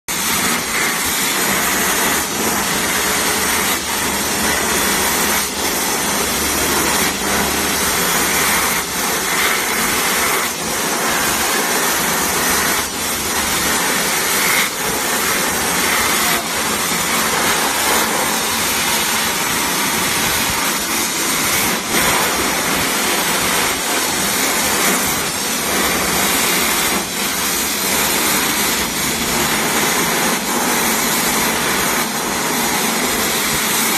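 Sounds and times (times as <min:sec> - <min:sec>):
abrasive blasting hiss: 0:00.1 - 0:33.7.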